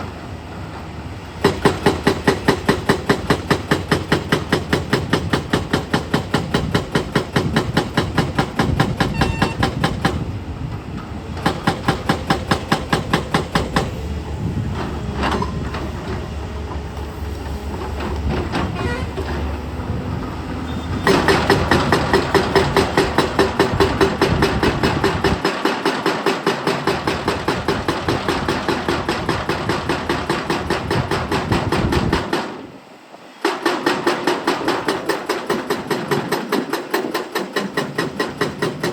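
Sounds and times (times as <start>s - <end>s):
hydraulic breaker hammering: 1.4s - 10.4s, 11.4s - 16.3s, 20.7s - 32.7s, 33.4s - 38.9s.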